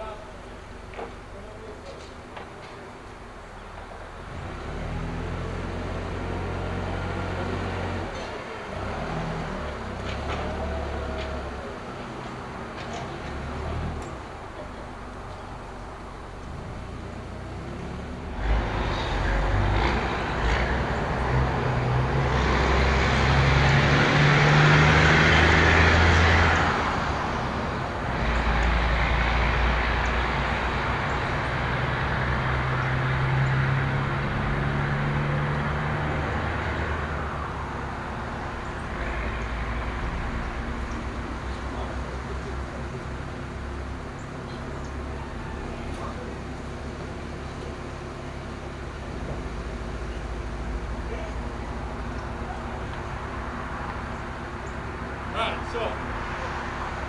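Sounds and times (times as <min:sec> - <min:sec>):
diesel truck engine starting and revving: 0:03.1 - 0:57.0.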